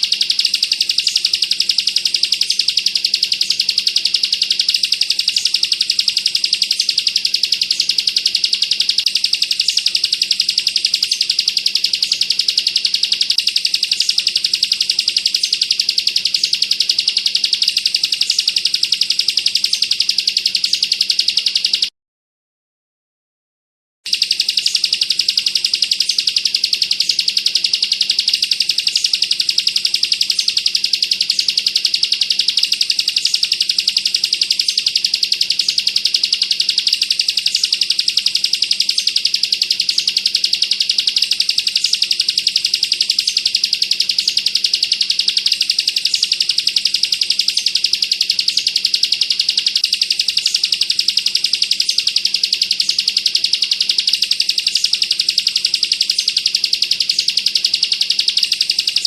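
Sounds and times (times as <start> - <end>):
bird singing fast trill: 0.0 - 21.9, 24.1 - 59.0.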